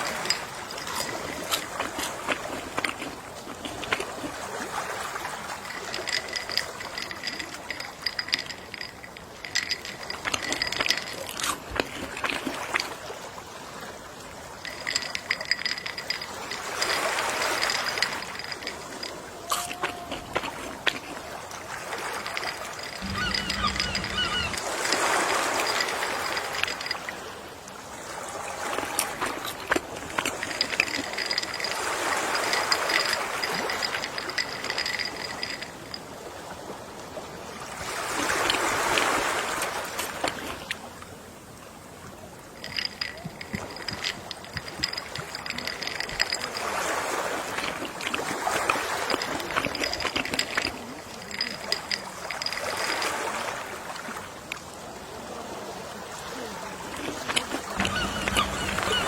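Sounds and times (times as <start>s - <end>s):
water crackling: 0.0s - 36.3s, 38.0s - 40.9s, 42.4s - 54.6s, 56.5s - 59.0s
gentle sea waves: 0.0s - 59.0s.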